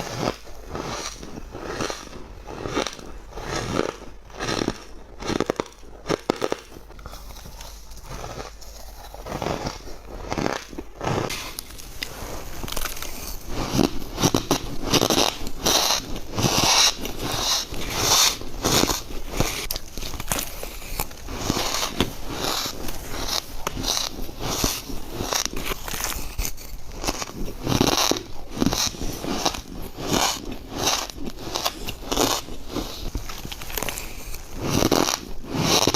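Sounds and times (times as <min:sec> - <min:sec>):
ice crunching when bitten: 0:00.0 - 0:35.9.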